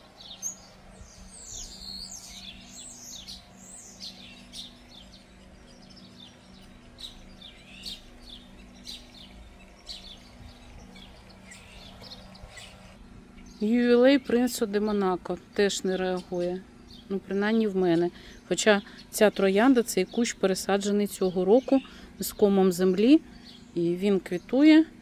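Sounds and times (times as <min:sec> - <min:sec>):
faint low hum: 0:00.0 - 0:25.0
songbirds chirping: 0:00.0 - 0:25.0.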